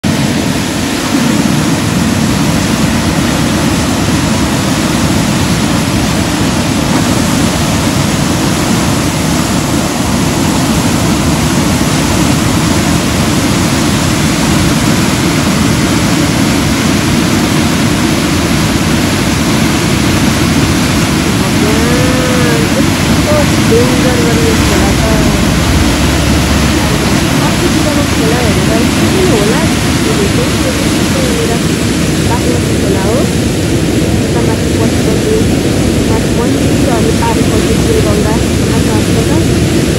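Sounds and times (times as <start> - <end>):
floodwater rushing over riverbed: 0.0 - 39.9.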